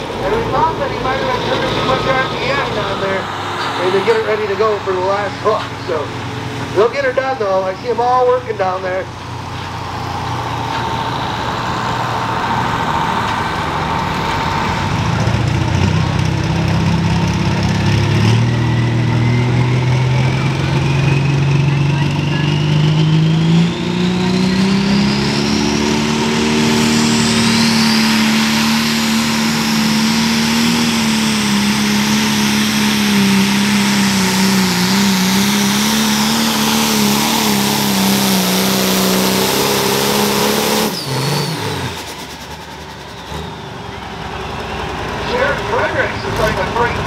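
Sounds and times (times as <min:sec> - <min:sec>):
diesel engine at full throttle: 0:00.0 - 0:47.0.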